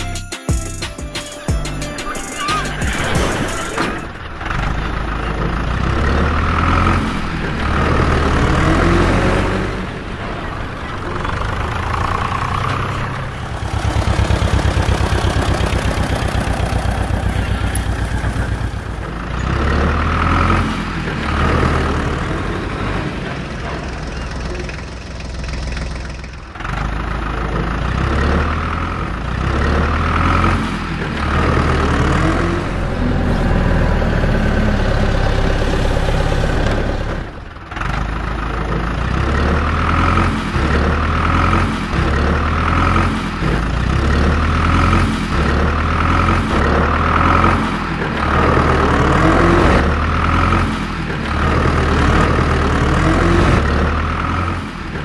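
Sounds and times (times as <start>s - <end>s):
heavy engine revving: 1.8s - 55.0s.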